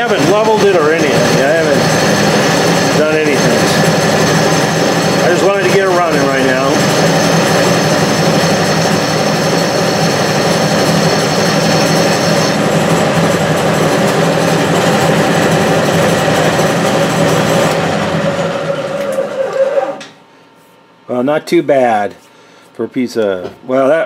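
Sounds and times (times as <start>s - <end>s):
vibration noise: 0.0s - 20.0s
metal lathe running: 0.0s - 20.1s
high steady whine: 0.0s - 20.2s.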